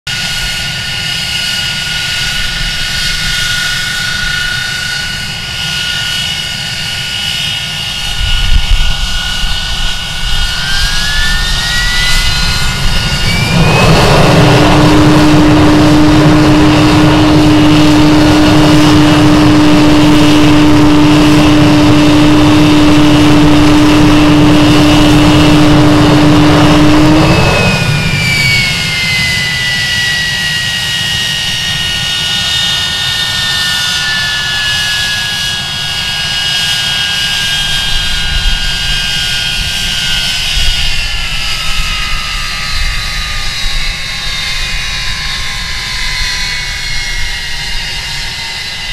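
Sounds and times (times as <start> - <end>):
jet engines whining and roaring: 0.1 - 48.9.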